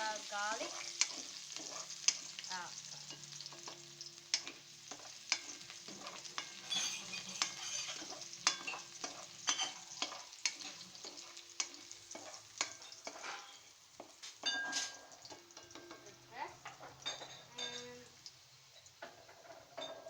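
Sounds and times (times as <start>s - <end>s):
garlic sizzling in hot oil: 0.0s - 20.0s
utensil scraping and tapping pan: 0.6s - 18.0s.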